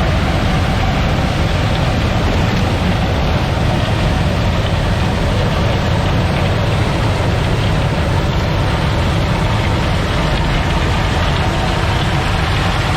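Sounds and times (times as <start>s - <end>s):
combine harvester running: 0.0s - 12.9s.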